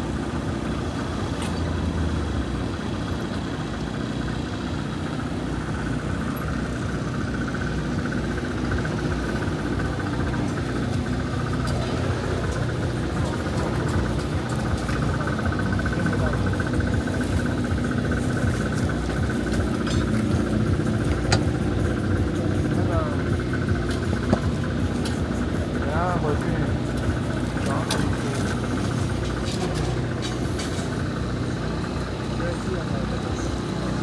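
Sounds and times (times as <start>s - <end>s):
traffic engine hum: 0.0s - 34.0s.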